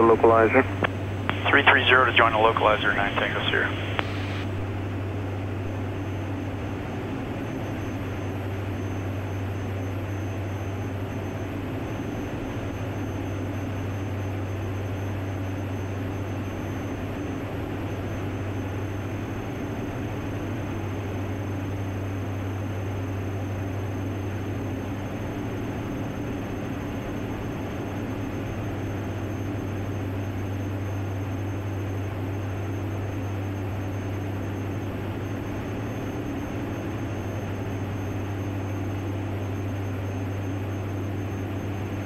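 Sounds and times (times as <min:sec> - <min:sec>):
aircraft cabin engine drone: 0:00.0 - 0:42.0.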